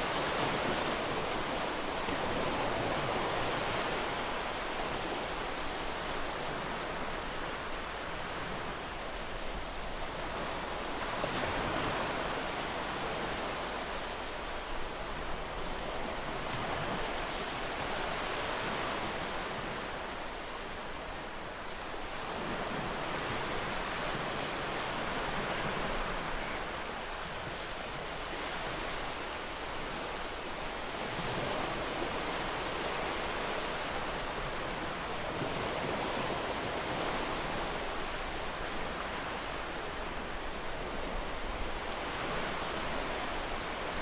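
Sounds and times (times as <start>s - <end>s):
ocean surf breaking on shore: 0.0s - 44.0s.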